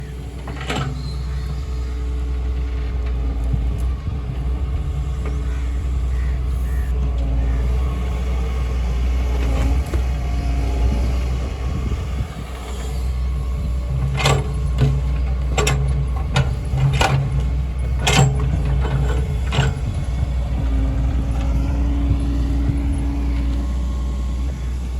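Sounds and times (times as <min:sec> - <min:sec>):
diesel engine rumbling: 0:00.0 - 0:24.9.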